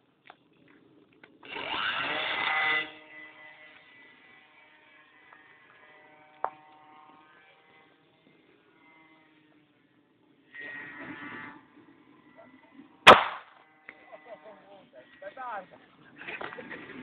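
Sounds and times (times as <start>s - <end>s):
model airplane motor whine: 1.4s - 15.6s.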